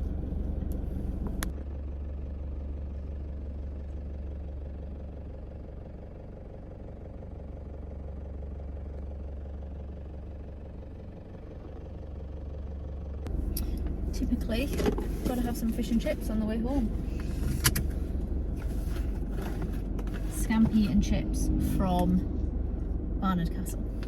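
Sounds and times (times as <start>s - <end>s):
car interior rumble: 0.0s - 24.0s.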